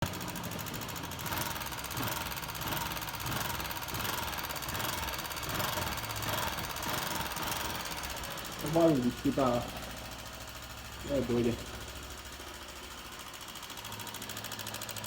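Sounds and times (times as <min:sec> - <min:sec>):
motorcycle engine running: 0:00.0 - 0:15.0
rapid valve tapping: 0:00.1 - 0:15.0.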